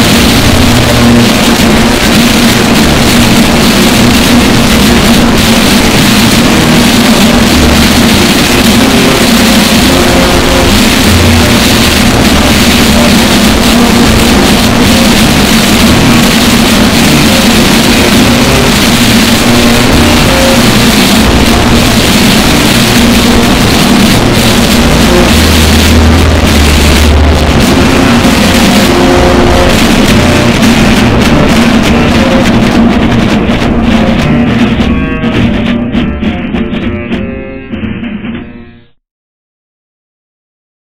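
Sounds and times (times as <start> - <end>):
distorted bagpipes playing: 0.0 - 39.0.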